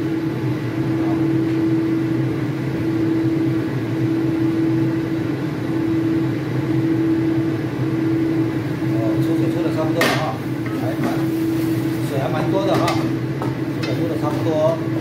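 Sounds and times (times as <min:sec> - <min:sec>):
kitchen fan humming: 0:00.0 - 0:15.0.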